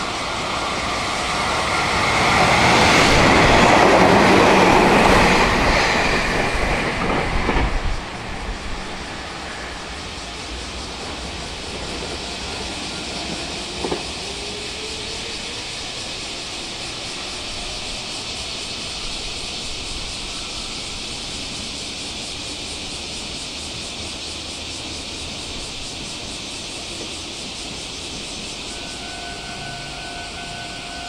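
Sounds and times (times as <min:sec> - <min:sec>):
train steady hiss: 0:00.0 - 0:31.0.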